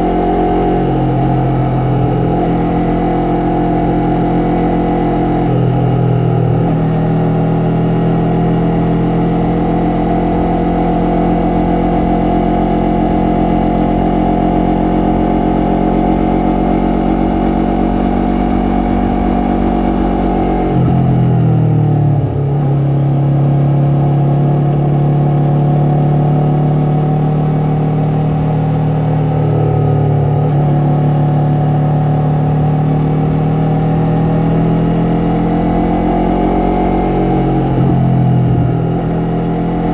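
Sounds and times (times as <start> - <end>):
motorcycle engine and exhaust running: 0.0 - 39.9.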